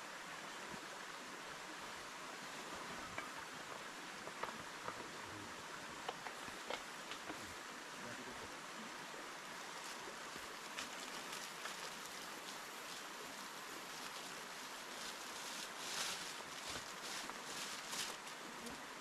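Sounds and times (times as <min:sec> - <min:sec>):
river flowing: 0:00.0 - 0:19.0
rustle: 0:00.0 - 0:19.0.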